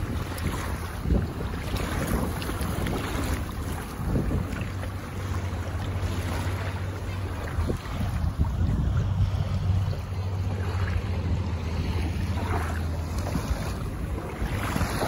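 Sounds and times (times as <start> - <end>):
small waves lapping on shore: 0.0 - 15.0
wind buffeting microphone: 0.0 - 15.0.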